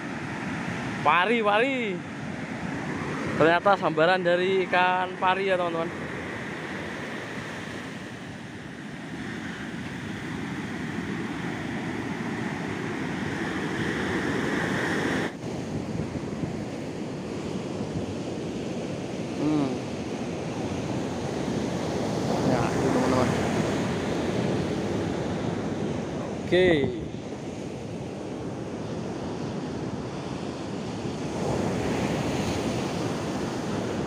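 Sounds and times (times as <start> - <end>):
ocean surf breaking: 0.0 - 34.0
wind buffeting microphone: 6.2 - 34.0.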